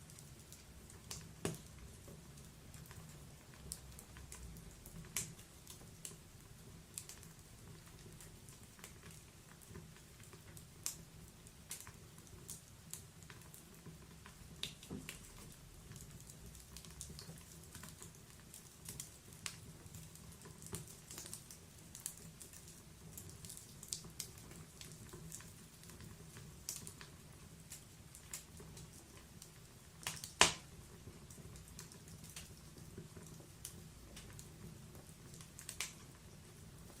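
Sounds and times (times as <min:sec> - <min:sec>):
log fire crackling: 0:00.0 - 0:37.0.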